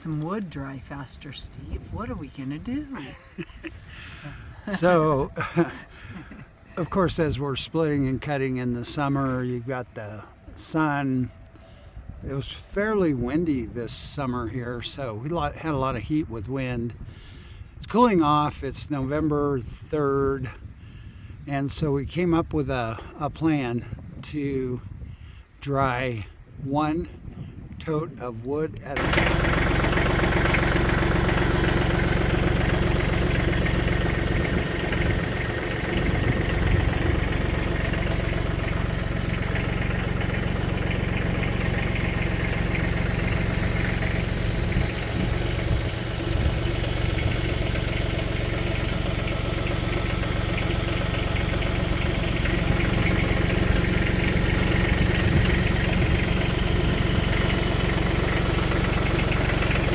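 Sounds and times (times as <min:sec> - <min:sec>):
engine idling: 0:00.0 - 0:18.5, 0:28.9 - 0:59.9.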